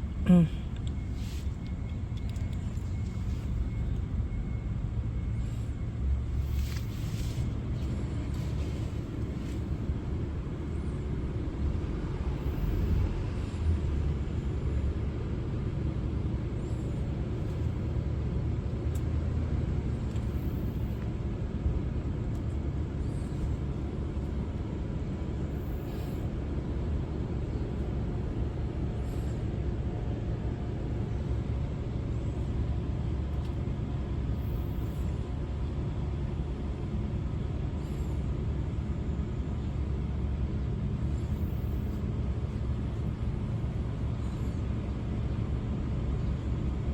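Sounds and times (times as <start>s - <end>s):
low background rumble: 0.0s - 46.9s.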